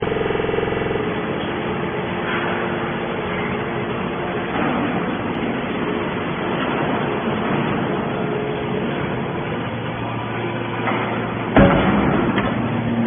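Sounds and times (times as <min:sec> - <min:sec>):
machinery rumble: 0:00.0 - 0:13.0
motor hum: 0:00.0 - 0:13.0.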